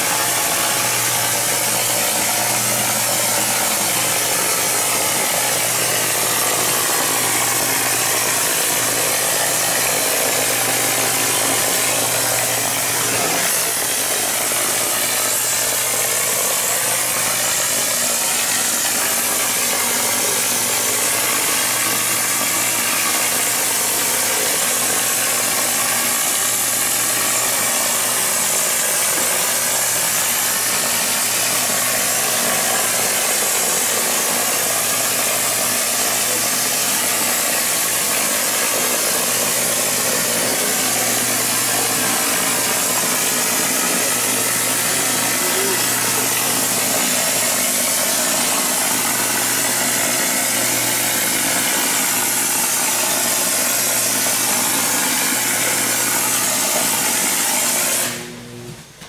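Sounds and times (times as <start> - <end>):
compressed air hiss from spray gun: 0.0 - 58.2
pump humming: 0.0 - 59.0.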